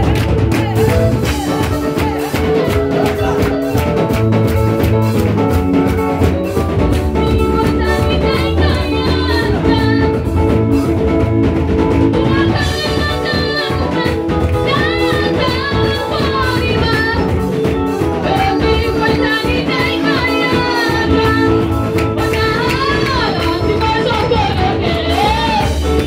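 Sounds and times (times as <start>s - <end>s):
electric keyboard: 0.0s - 26.0s
steady drum beat: 0.0s - 26.0s.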